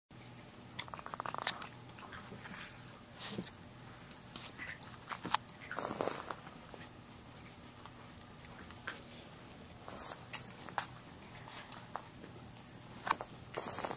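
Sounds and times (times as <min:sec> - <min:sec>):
puppies growling: 0:00.8 - 0:13.9.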